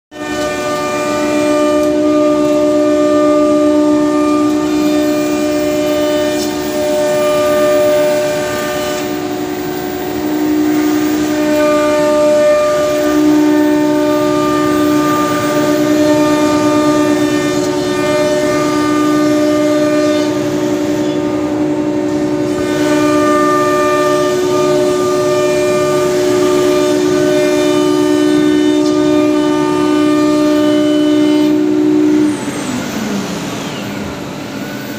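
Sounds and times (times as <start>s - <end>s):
cnc router spindle whine: 0.1s - 34.9s
cutting and dust extraction hiss: 0.2s - 34.9s.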